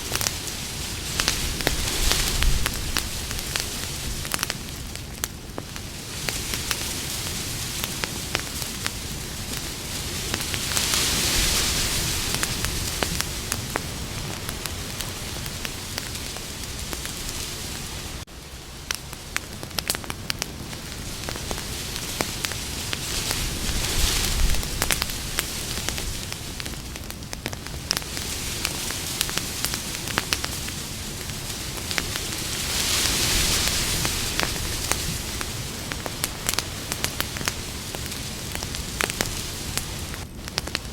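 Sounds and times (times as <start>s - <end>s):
campfire hissing: 0.0s - 40.9s
fire crackling and popping: 0.0s - 40.9s.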